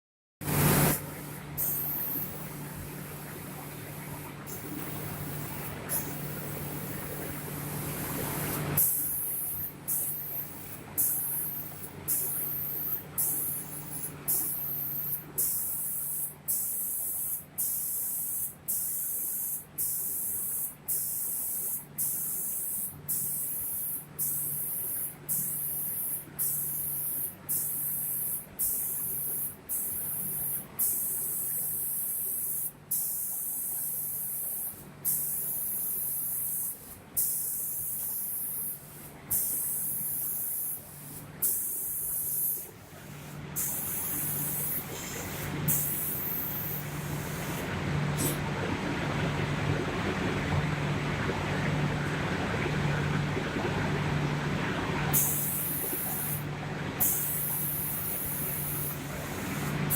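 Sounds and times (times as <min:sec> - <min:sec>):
low machine hum: 0:00.4 - 0:17.0, 0:19.6 - 0:59.9
spray guns hissing in bursts: 0:00.5 - 0:02.6, 0:04.0 - 0:48.4, 0:55.1 - 0:59.9.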